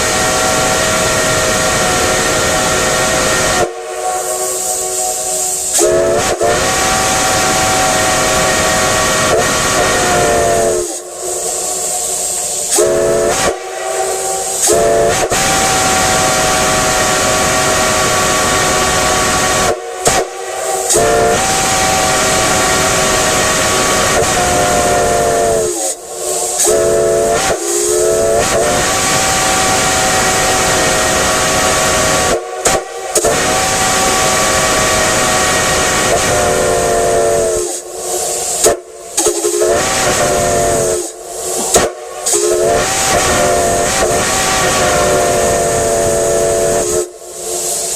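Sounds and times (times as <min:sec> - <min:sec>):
steam hissing: 0:00.0 - 0:47.9
steam whistle blasts: 0:00.0 - 0:47.9.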